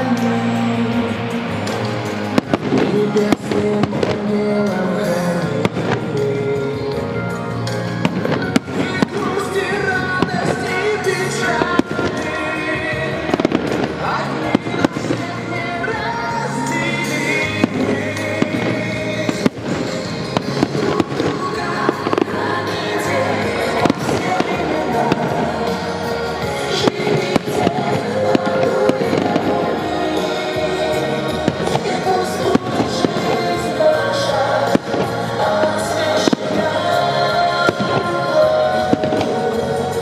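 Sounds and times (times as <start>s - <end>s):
fireworks bangs and crackles: 0.0s - 40.0s
melodic music: 0.0s - 40.0s.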